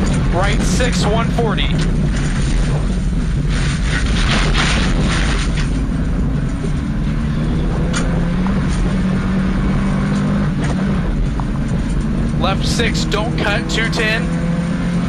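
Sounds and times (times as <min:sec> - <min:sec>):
rally car engine running hard: 0:00.0 - 0:15.0
road rumble: 0:00.0 - 0:15.0.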